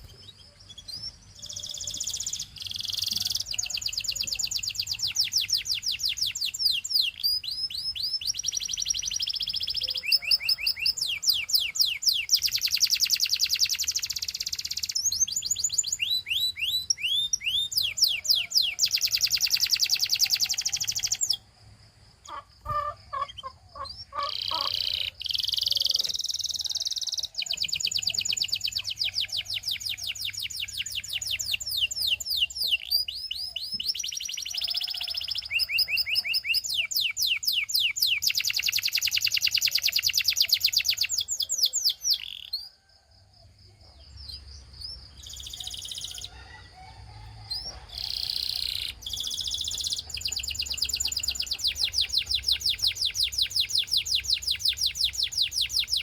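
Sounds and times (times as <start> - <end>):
canary singing rapid trills: 0.0 - 21.5, 22.2 - 42.8, 44.0 - 46.4, 47.5 - 56.0.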